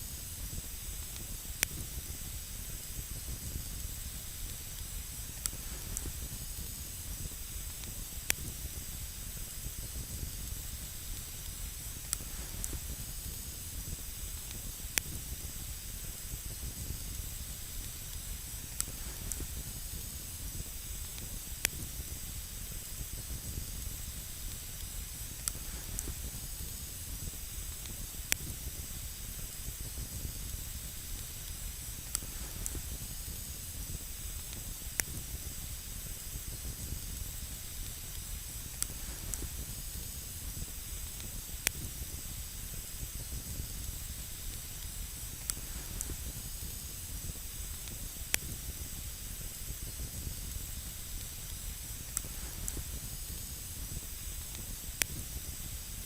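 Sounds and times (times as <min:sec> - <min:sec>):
campfire hissing and rumbling: 0:00.0 - 0:56.0
sharp fire crackles popping: 0:00.0 - 0:56.0.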